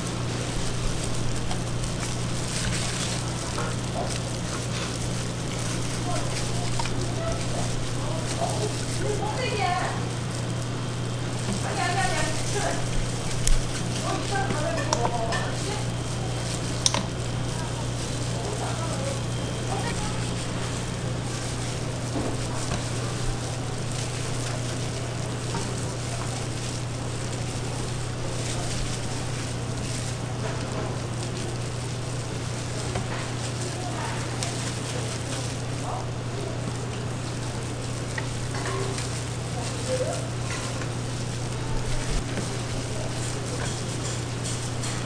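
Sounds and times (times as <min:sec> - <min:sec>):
constant low hum: 0:00.0 - 0:45.0
faint chatter: 0:00.0 - 0:45.0
food frying sizzle: 0:00.0 - 0:45.0.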